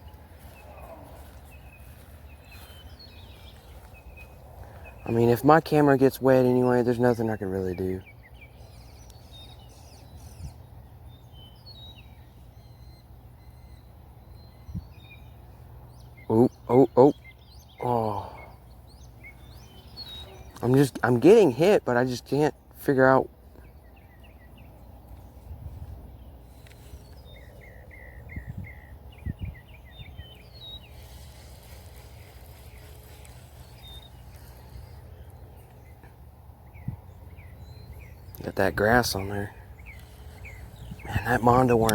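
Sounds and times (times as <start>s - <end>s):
birds chirping and calling: 0.0s - 41.9s
low outdoor background: 0.0s - 41.9s
songbird singing: 0.0s - 41.9s.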